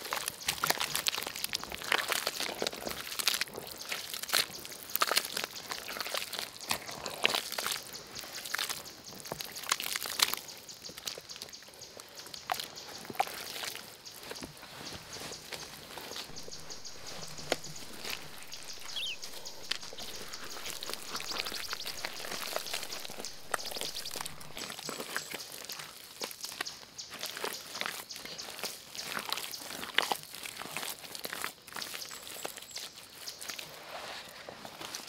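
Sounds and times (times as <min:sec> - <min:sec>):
hands squelching wet mud: 0:00.0 - 0:35.0.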